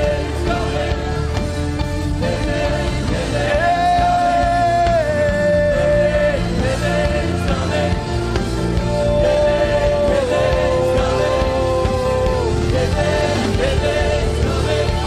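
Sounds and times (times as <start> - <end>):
band playing worship music: 0.0 - 15.0.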